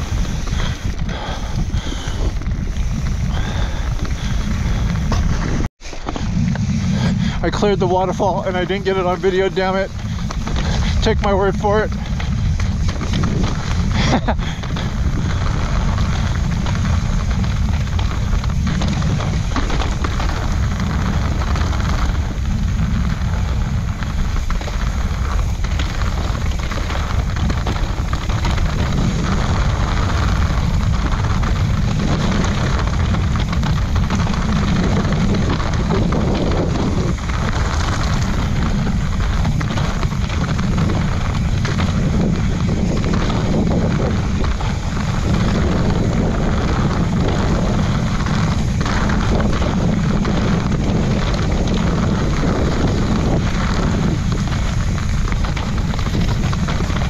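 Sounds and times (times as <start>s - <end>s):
tyres hissing on dirt trail: 0.0s - 57.0s
wind buffeting microphone: 0.0s - 57.0s.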